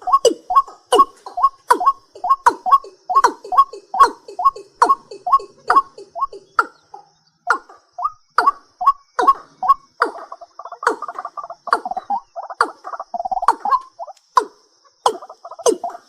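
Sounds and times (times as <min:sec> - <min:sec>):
night bird calling: 0:00.0 - 0:16.0.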